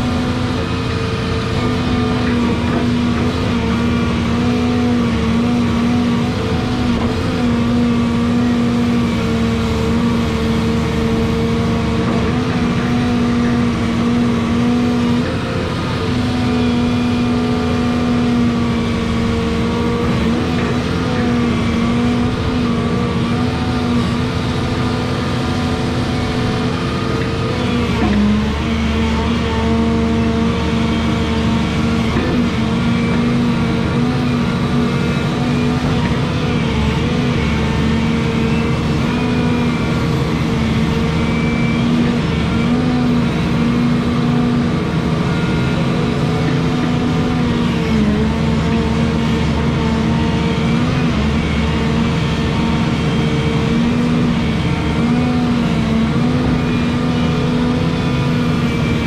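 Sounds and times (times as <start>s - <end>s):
excavator diesel engine droning: 0.0s - 59.0s.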